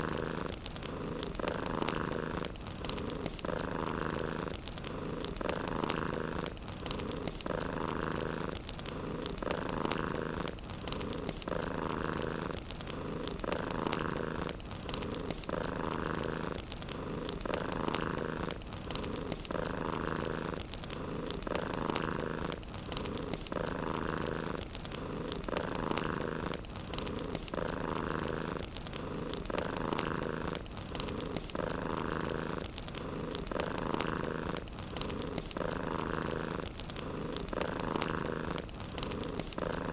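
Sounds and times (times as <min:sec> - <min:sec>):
cat purring: 0:00.0 - 0:39.9
fire crackling: 0:00.0 - 0:39.9.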